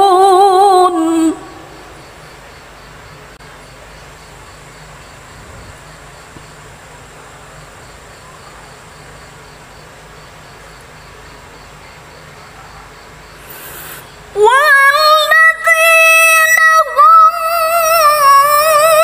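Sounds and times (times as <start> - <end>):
cricket chirping: 0.0 - 19.0
low hiss: 0.0 - 19.0.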